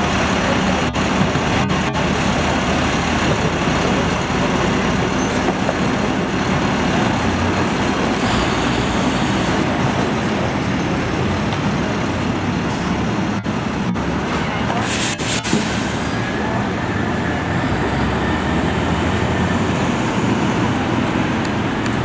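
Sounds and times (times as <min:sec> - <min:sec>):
truck engine pulling away: 0:00.0 - 0:14.3, 0:15.0 - 0:22.0
city street traffic: 0:00.0 - 0:22.0.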